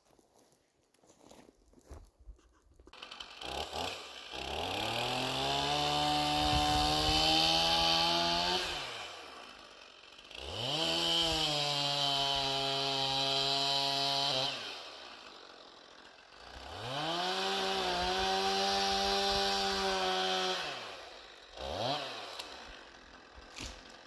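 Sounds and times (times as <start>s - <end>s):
chainsaw revving: 2.9s - 24.0s.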